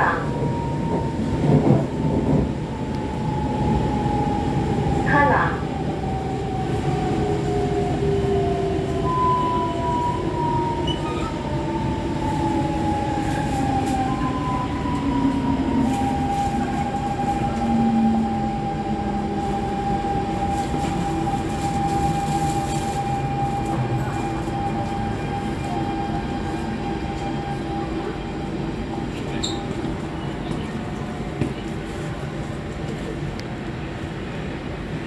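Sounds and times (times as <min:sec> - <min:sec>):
train wheels rumbling on track: 0:00.0 - 0:35.0.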